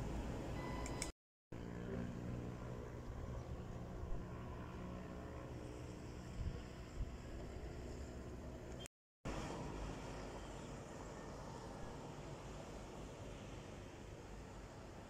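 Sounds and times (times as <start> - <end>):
low outdoor rumble: 1.6 - 15.0.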